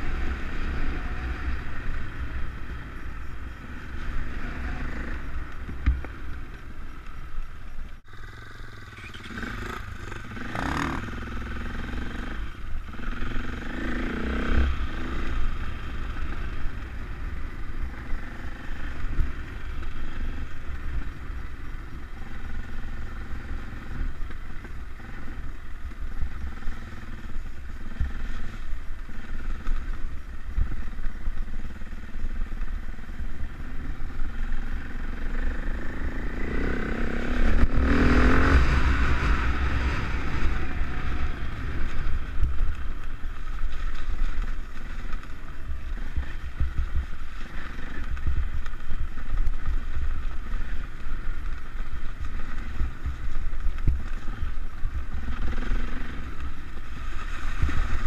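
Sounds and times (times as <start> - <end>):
trail bike engine running: 0.0 - 58.0.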